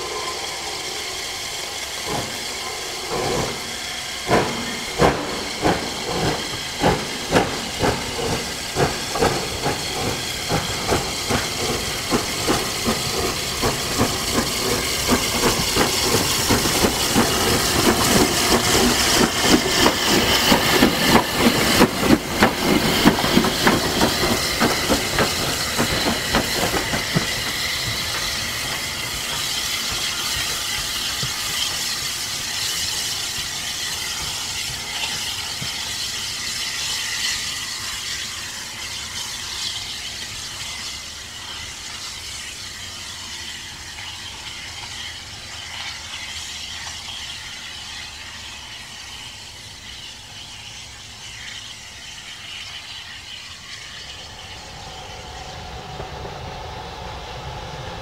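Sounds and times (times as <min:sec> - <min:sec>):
steam hiss: 0:00.0 - 0:58.0
steam locomotive chuffing: 0:00.0 - 0:58.0.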